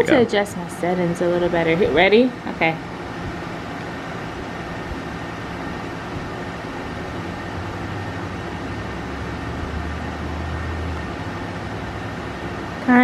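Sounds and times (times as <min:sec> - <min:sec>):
background rumble and hiss: 0:00.0 - 0:13.0
low hum: 0:00.0 - 0:13.0.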